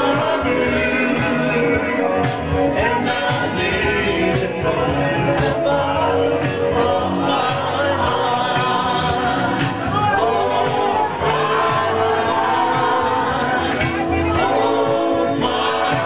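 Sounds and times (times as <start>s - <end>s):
live music with singing: 0.0s - 16.0s.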